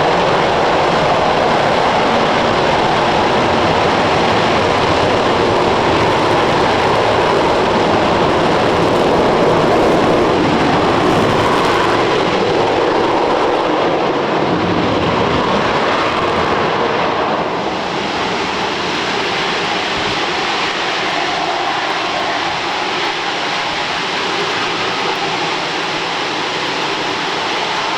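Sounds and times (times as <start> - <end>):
rocket engine roar: 0.0 - 27.9.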